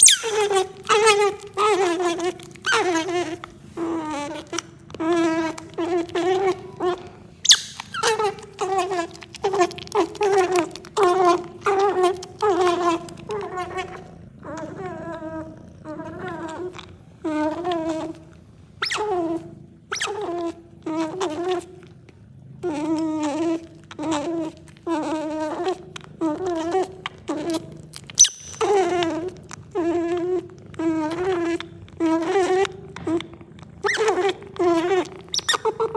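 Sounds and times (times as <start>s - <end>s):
otter pup squeaking: 0.0s - 21.8s, 22.6s - 35.9s.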